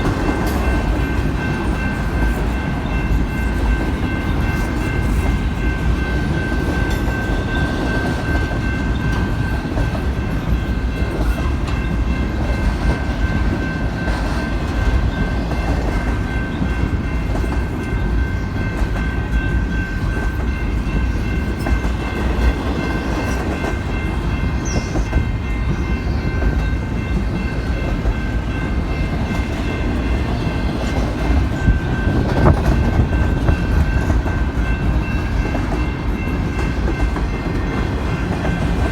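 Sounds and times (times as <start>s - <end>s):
freight train rumbling: 0.0s - 38.9s
wheels clicking on rails: 0.0s - 38.9s.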